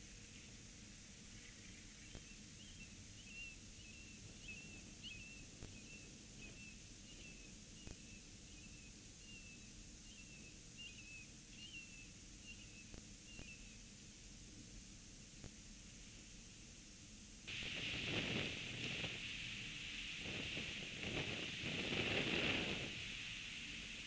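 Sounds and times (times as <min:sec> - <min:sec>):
light hiss: 0:00.0 - 0:24.0.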